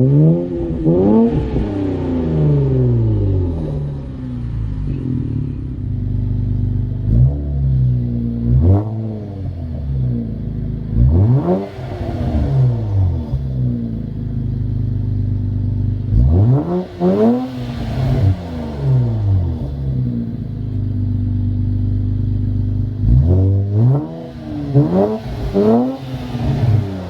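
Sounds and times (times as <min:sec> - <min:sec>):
car engine idling with revs: 0:00.0 - 0:27.0.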